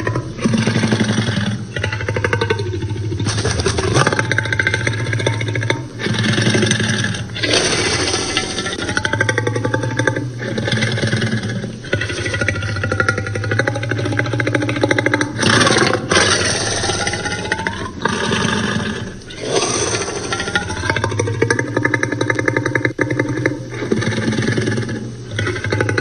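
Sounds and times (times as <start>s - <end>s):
dinosaur growling roars: 0.0s - 26.0s.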